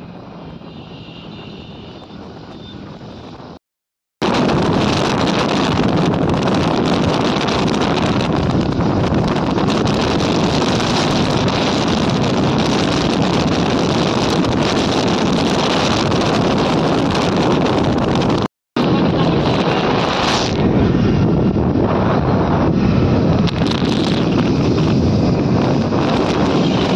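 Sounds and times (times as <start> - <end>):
vehicle rumbling along road: 0.0 - 3.6, 4.2 - 26.9
wind buffeting microphone: 4.2 - 26.9.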